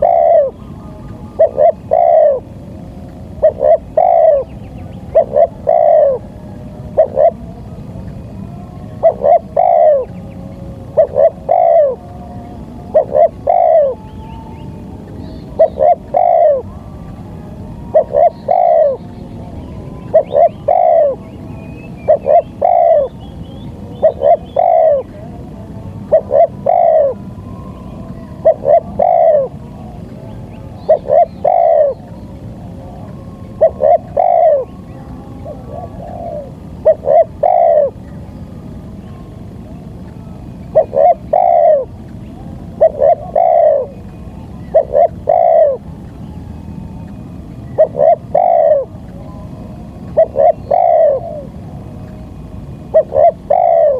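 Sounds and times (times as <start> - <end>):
dove cooing: 0.0 - 0.7, 1.3 - 2.6, 3.3 - 7.8, 8.7 - 17.0, 17.6 - 19.0, 19.9 - 21.3, 22.0 - 23.2, 23.9 - 25.3, 26.0 - 38.3, 39.1 - 46.2, 46.9 - 53.9.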